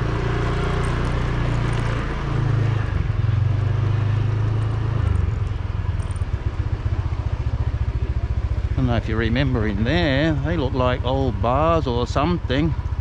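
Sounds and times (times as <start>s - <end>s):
small motorbike engine running: 0.0s - 13.0s.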